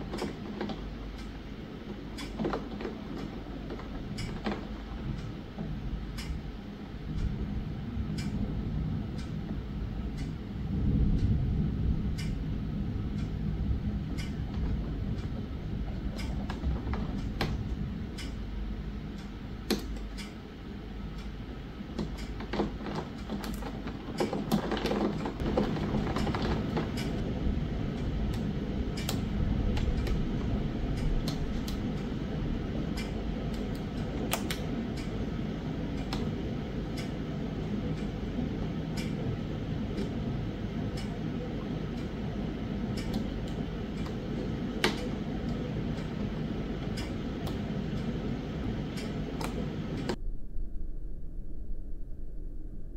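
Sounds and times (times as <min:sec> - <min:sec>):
raindrops ticking on window: 0:00.0 - 0:18.4, 0:19.1 - 0:50.2
rain shower: 0:00.0 - 0:19.6, 0:20.6 - 0:50.2
thunder rumbling: 0:00.0 - 0:52.9.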